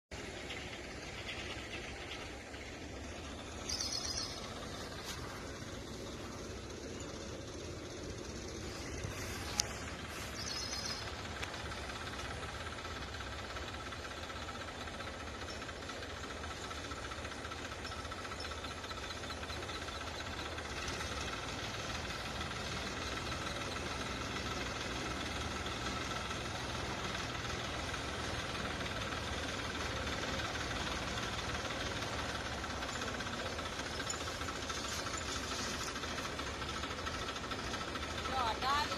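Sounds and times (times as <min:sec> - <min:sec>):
tractor diesel engine running: 0:00.1 - 0:38.9.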